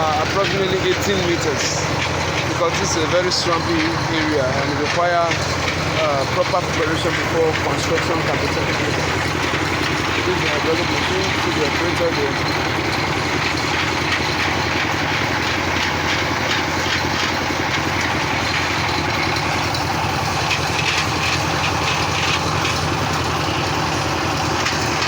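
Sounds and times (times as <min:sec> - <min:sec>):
drill rig engine running: 0:00.0 - 0:25.0
mechanical clatter: 0:00.0 - 0:25.0.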